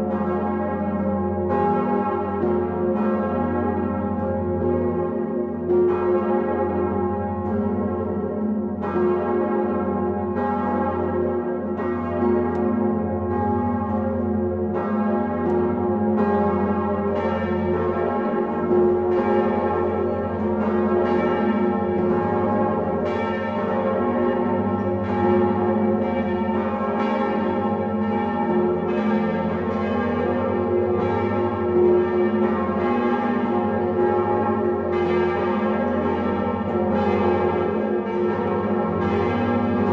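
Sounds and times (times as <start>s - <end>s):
church bells clanging: 0.0s - 39.9s.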